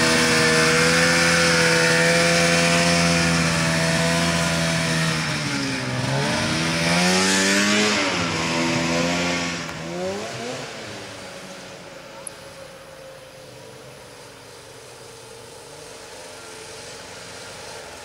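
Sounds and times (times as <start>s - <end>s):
snowmobile engine revving: 0.0s - 13.0s, 14.6s - 18.0s.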